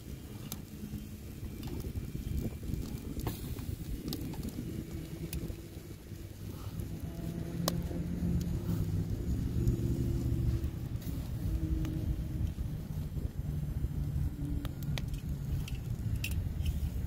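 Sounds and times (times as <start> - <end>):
low outdoor rumble: 0.0 - 17.0
wood fire crackling and popping: 0.0 - 17.0.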